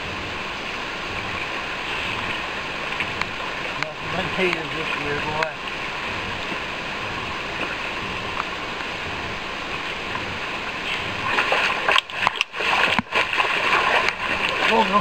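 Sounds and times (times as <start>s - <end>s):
river rushing over rocks: 0.0s - 15.0s
fish thrashing and splashing: 1.0s - 15.0s.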